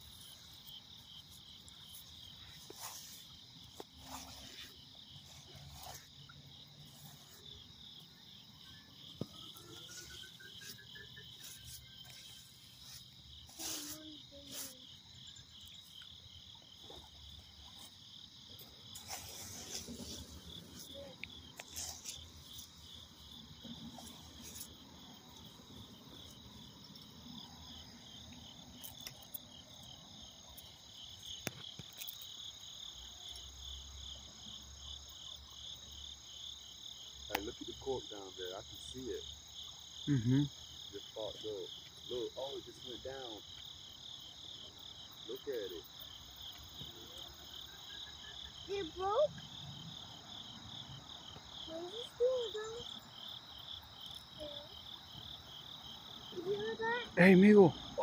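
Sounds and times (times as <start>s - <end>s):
night insects chirping: 0.0s - 58.0s.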